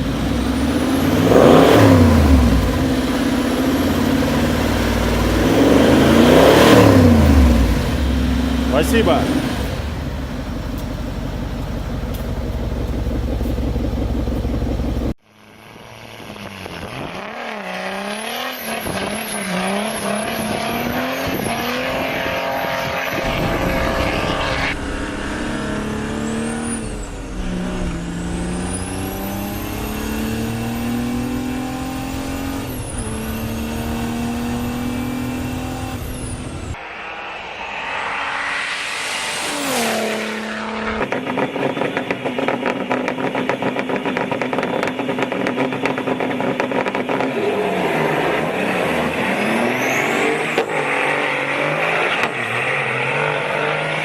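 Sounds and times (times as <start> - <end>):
diesel car engine revving: 0.0 - 15.2, 15.8 - 36.8, 39.2 - 54.0.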